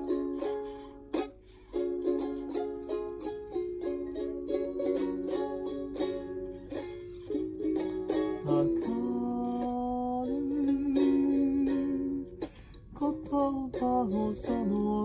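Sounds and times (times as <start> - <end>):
ukulele fingerpicked: 0.0 - 15.0.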